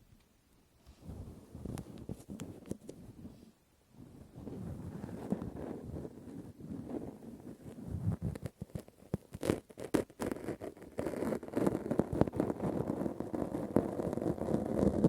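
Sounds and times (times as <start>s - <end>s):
rustling and scratching: 0.8s - 15.0s.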